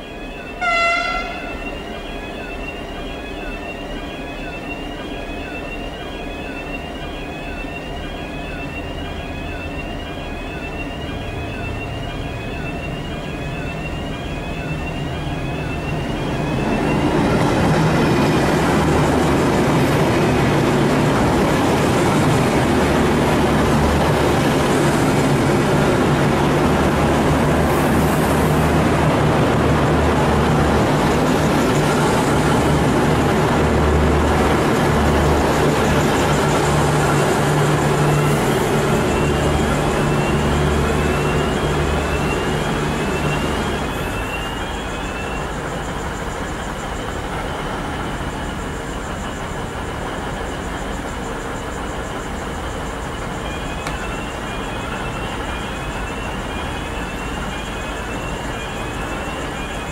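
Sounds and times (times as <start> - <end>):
diesel train engines: 0.0 - 59.9.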